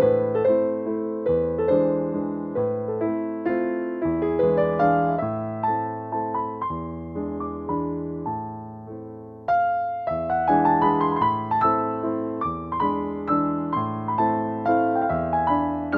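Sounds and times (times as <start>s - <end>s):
soft piano music: 0.0s - 15.9s.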